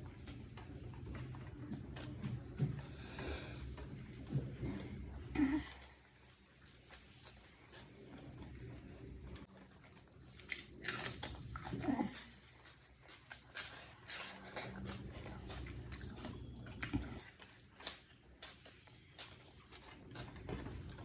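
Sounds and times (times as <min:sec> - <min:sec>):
close chewing with crunches: 0:00.0 - 0:21.0.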